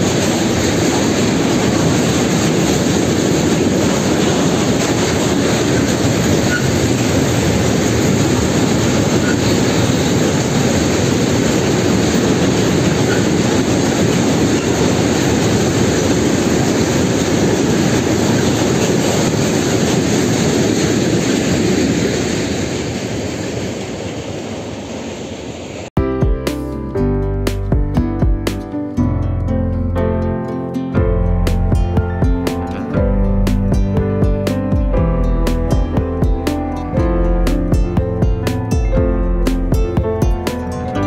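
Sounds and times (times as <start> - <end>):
freight train wheels rumbling on rails: 0.0 - 24.8, 31.0 - 41.0.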